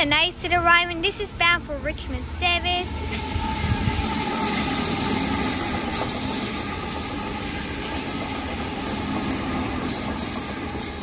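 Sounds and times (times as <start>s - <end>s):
faint train whine: 0.0s - 11.0s
train wheels hissing on rail: 1.0s - 11.0s.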